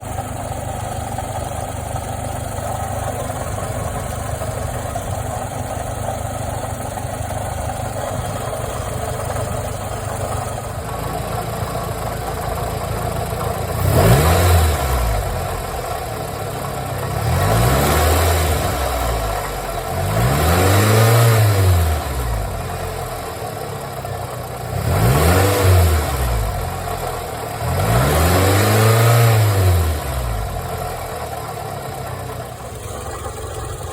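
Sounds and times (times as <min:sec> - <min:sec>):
engine clunking noise: 0:00.0 - 0:25.4, 0:26.1 - 0:33.9
car engine idling and revving: 0:00.0 - 0:33.9.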